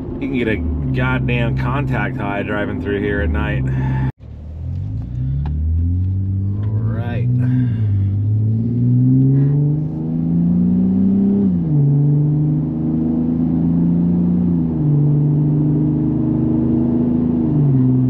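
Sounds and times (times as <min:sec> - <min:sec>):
engine accelerating from inside cab: 0:00.0 - 0:18.0.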